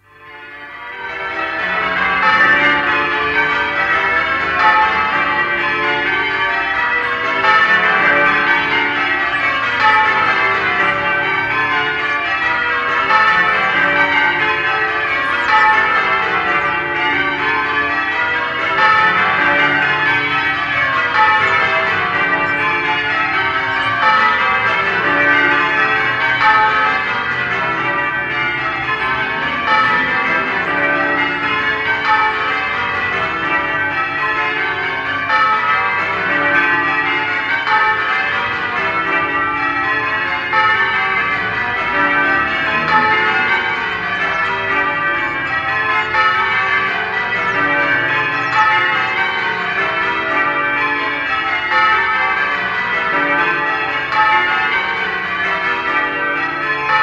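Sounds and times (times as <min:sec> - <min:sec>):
church bells ringing changes: 0:00.0 - 0:57.0.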